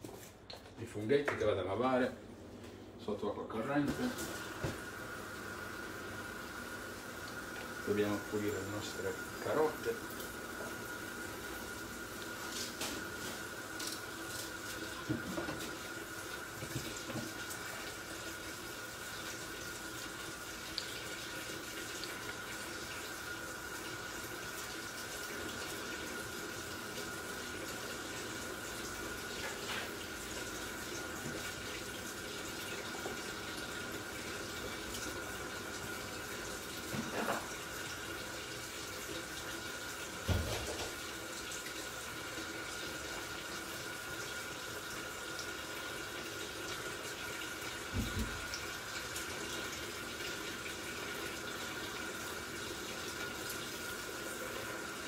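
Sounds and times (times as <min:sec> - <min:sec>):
kitchen tap running: 0:03.6 - 0:55.0.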